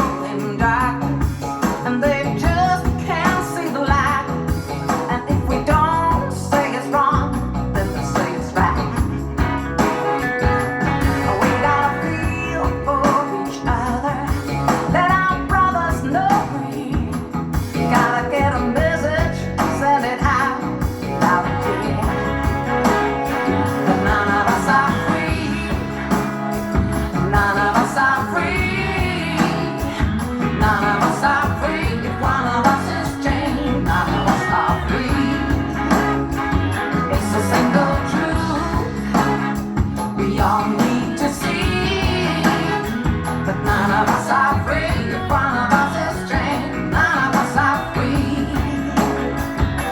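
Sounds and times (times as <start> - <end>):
rock and roll song with singing: 0.0 - 49.9.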